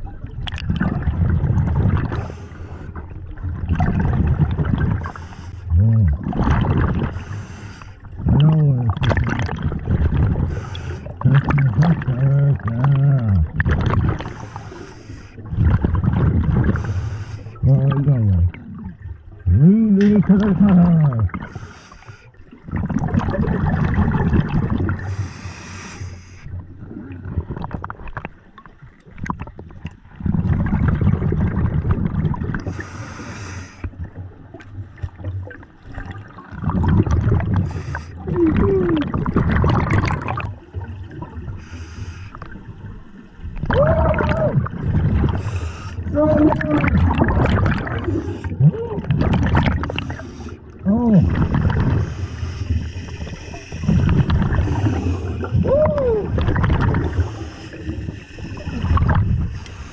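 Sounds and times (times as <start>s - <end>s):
bubbling regulator exhalations: 0.0s - 28.4s, 29.2s - 42.7s, 43.4s - 59.9s.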